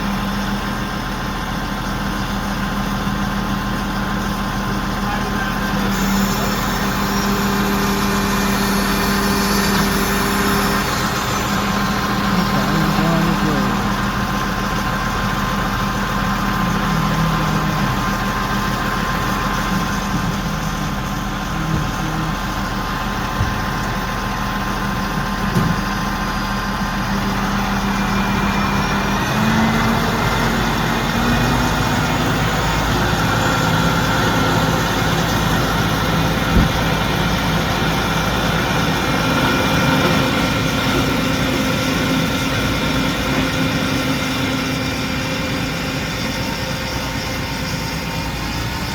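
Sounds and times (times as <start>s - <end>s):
crane engine running under load: 0.0s - 48.9s.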